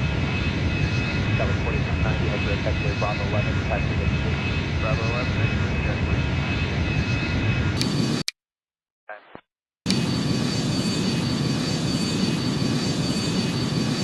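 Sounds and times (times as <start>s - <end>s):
jet airliner engine whine: 0.0s - 8.2s, 9.9s - 14.0s.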